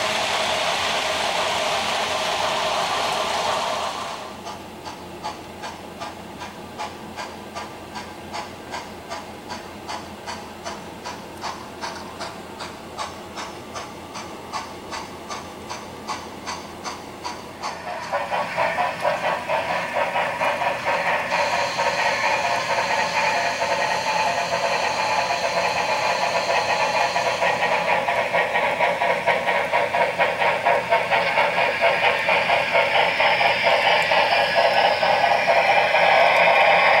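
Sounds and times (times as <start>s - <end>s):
steam engine exhaust chuffs: 0.0s - 37.0s.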